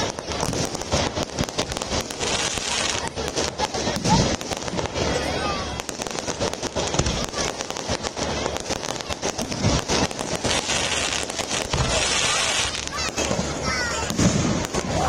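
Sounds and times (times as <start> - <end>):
fireworks crackling and banging: 0.0 - 15.0
fireworks hissing: 0.0 - 15.0.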